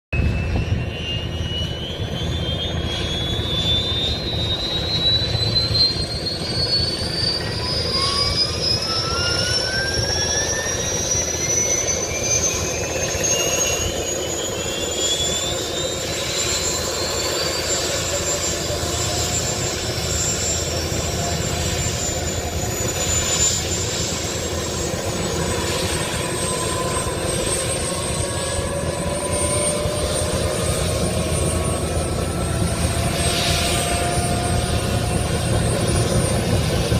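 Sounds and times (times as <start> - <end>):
helicopter turbine whine: 0.1 - 36.9.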